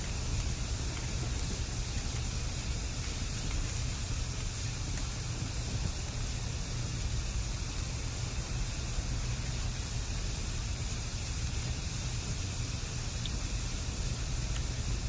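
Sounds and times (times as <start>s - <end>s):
bamboo burning with steam hiss: 0.0s - 15.0s
low fire rumble: 0.0s - 15.0s.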